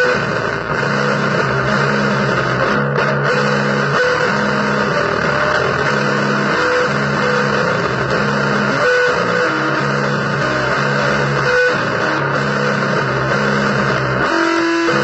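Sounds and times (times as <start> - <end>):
low guitar riff: 0.0 - 15.0.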